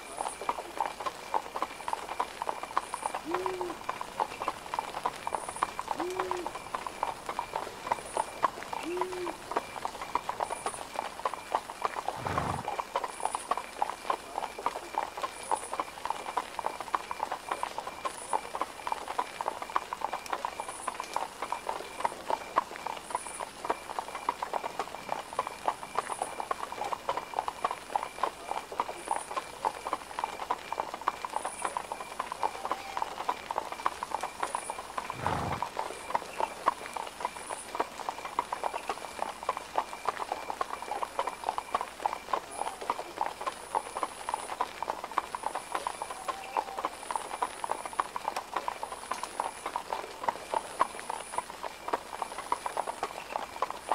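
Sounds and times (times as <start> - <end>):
horse hooves on cobblestones: 0.0 - 53.9.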